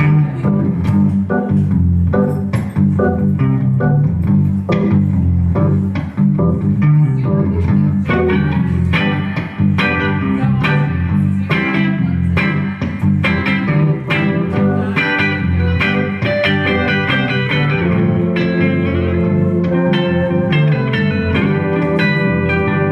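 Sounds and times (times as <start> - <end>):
bass line: 0.0 - 22.9
electric guitar: 0.0 - 22.9.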